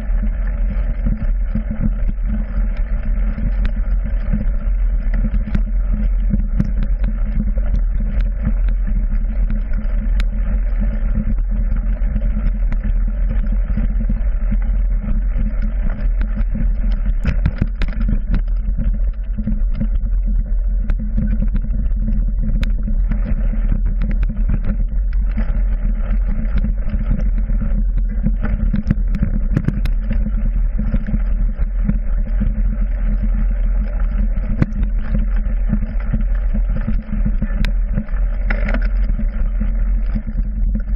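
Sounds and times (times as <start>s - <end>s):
low rumble of bike tyres: 0.0s - 40.9s.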